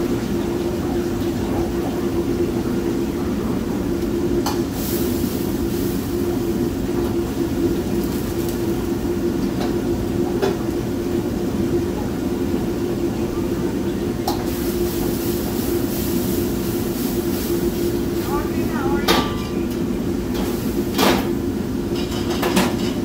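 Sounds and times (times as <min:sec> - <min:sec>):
exhaust hood running: 0:00.0 - 0:23.0
gas burner roaring: 0:00.0 - 0:23.0.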